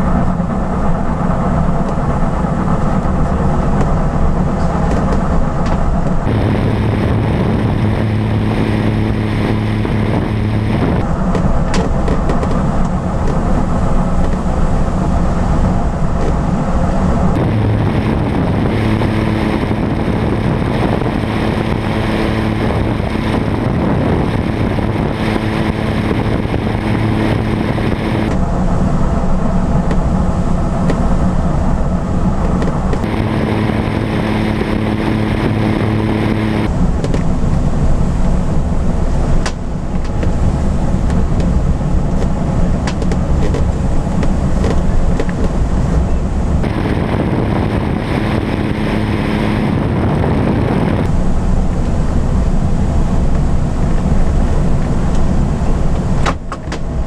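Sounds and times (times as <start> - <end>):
propeller plane engine drone: 0.0 - 57.0
rushing airflow in cockpit: 0.0 - 57.0.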